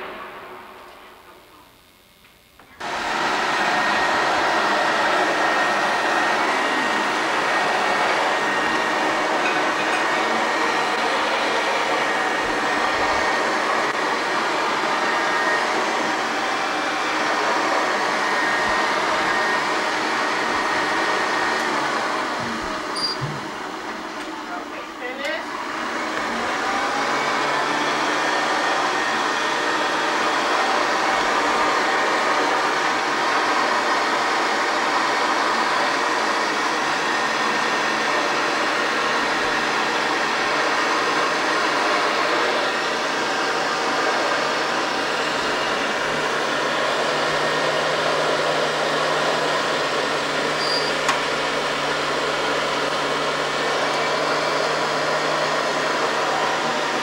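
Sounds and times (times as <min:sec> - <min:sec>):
vacuum cleaner running on carpet: 0:00.0 - 0:01.3, 0:02.8 - 0:57.0.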